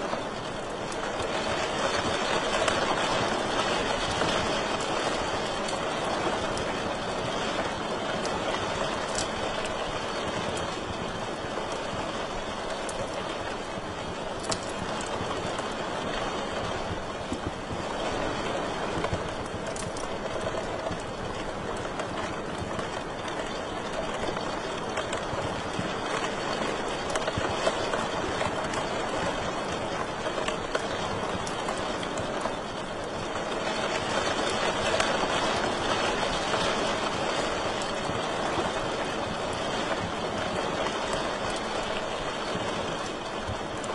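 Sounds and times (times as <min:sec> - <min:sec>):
wood fire crackles and pops: 0:00.0 - 0:43.9.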